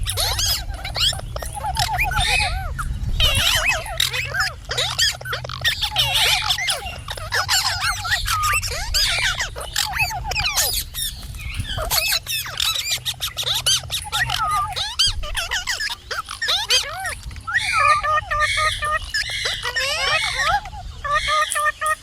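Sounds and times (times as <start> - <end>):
steady low hum: 0.0 - 21.1
parrots chirping and squawking: 0.0 - 22.0.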